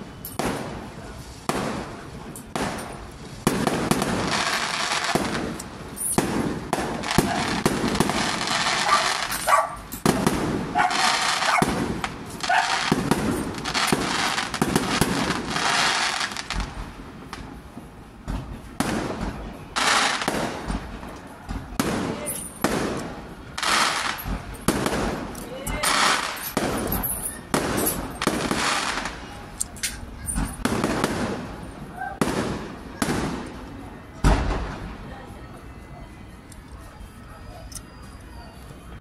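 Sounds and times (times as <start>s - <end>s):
fireworks bangs: 0.0s - 29.6s, 30.2s - 35.1s
fireworks crackling: 0.0s - 35.2s.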